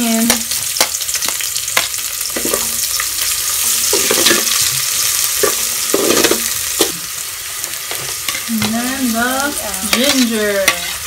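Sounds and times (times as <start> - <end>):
garlic and onion sizzling in oil: 0.0 - 11.0.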